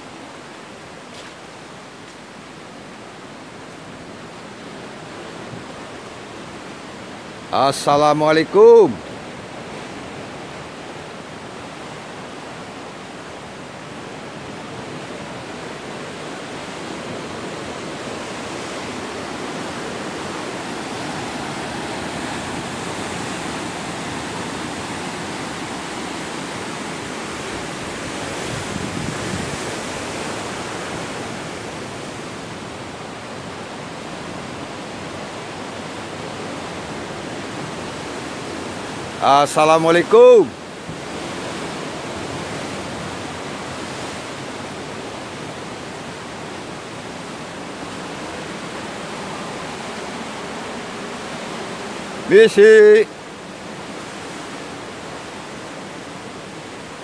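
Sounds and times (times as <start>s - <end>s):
surf breaking on rocky shore: 3.7s - 57.0s.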